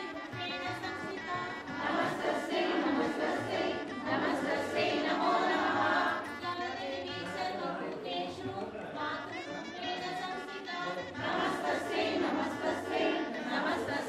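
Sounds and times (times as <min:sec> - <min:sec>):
group singing devotional song: 0:00.0 - 0:14.0.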